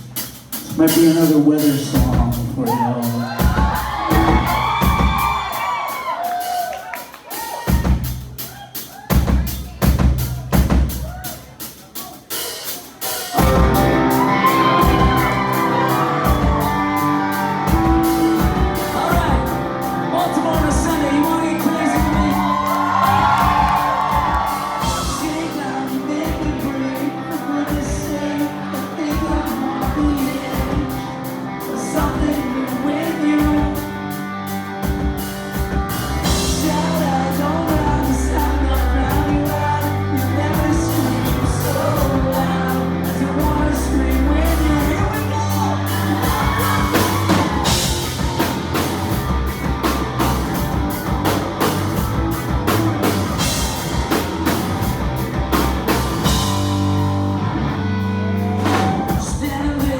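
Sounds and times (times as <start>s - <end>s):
live rock band with singing: 0.0s - 59.9s.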